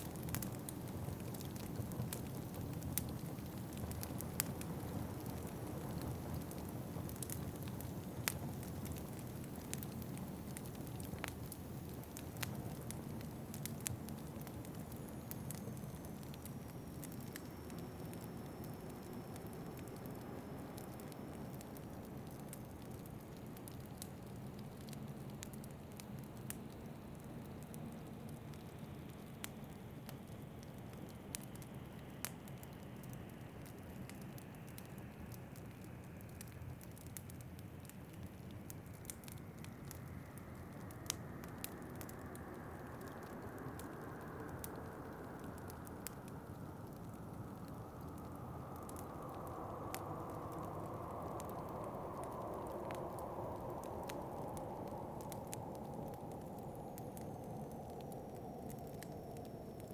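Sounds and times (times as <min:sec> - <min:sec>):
fireplace crackling and popping: 0:00.0 - 0:59.9.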